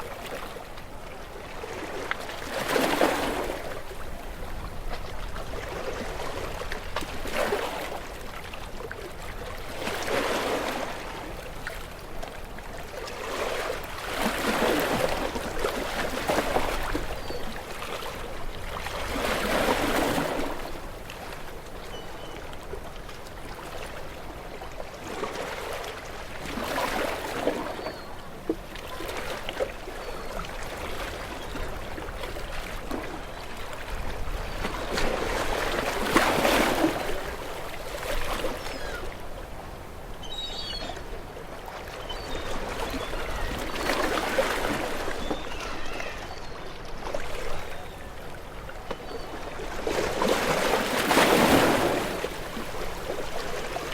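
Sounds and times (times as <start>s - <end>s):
small waves washing onto shore: 0.0s - 53.9s.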